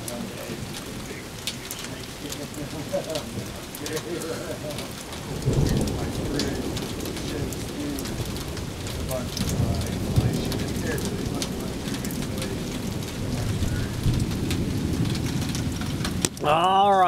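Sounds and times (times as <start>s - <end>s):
man speaking: 0.0s - 14.2s, 16.4s - 17.0s
heavy rain ticking: 0.0s - 17.0s
low storm rumble: 0.0s - 17.0s.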